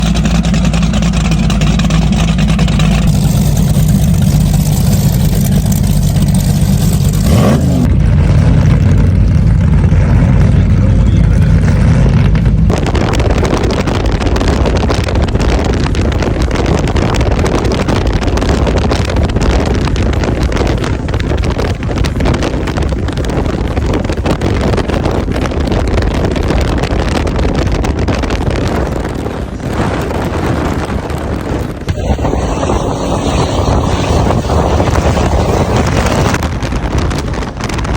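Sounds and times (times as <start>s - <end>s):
powerboat engines droning: 0.0s - 26.1s, 26.7s - 37.9s
rush of wind and water: 0.0s - 37.9s.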